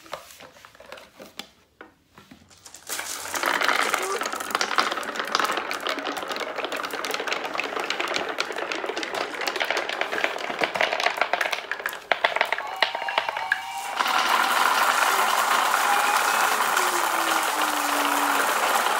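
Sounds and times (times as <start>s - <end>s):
glass marbles rolling on wood: 2.5s - 18.9s.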